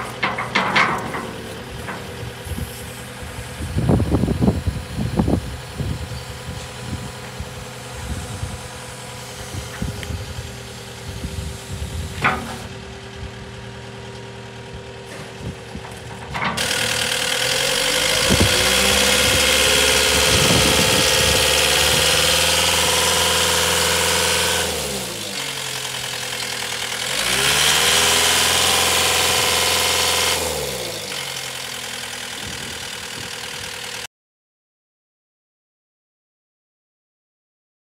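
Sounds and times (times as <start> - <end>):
engine knocks: 0.0 - 34.0
diesel engine idling and revving: 0.0 - 34.1.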